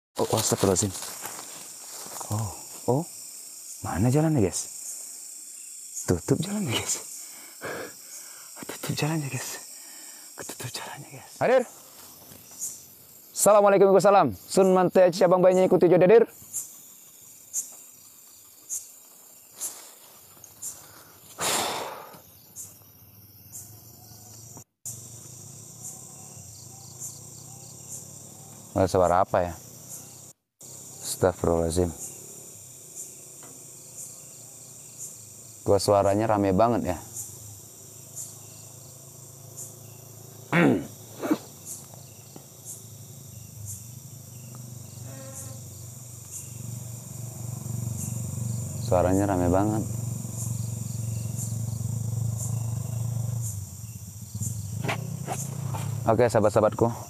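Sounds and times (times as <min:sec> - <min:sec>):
night insects chirping: 0:00.2 - 0:57.0
steady insect hum: 0:00.2 - 0:57.0.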